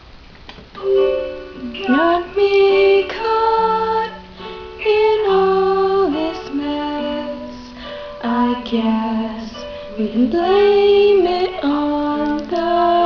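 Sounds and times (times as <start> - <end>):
instrumental accompaniment: 0.7 - 13.0
young woman singing: 1.6 - 13.0.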